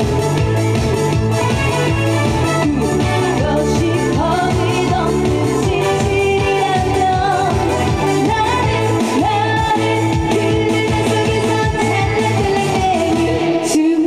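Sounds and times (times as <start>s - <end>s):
backing track with steady beat: 0.0s - 14.0s
woman singing: 2.6s - 14.0s.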